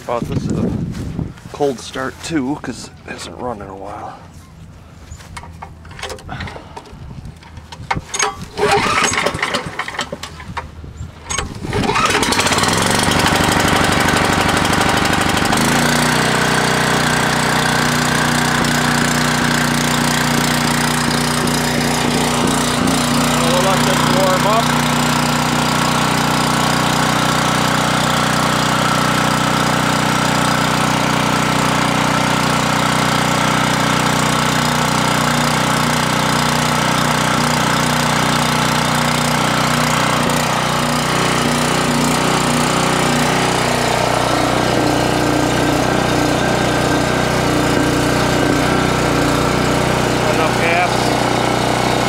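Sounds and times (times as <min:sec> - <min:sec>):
generator engine running: 0:02.2 - 0:52.0.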